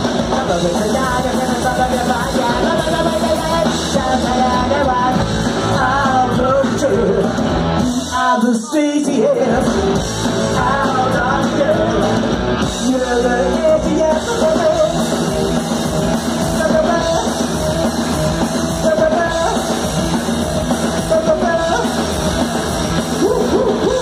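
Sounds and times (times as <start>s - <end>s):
person singing: 0.0s - 15.3s, 16.4s - 17.5s, 18.7s - 19.9s, 21.0s - 24.0s
punk rock band playing live: 0.0s - 24.0s.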